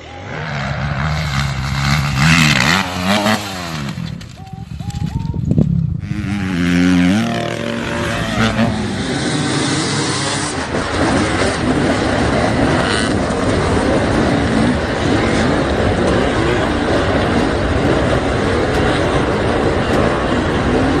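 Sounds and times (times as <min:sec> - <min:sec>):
off-road vehicle engine revving: 0:00.0 - 0:04.3, 0:06.0 - 0:21.0.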